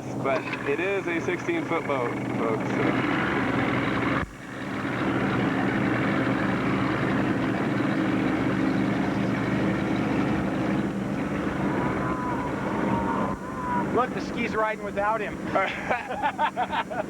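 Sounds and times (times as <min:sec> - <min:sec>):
motorboat engine running: 0:00.0 - 0:17.0
wind and water noise: 0:00.0 - 0:17.0.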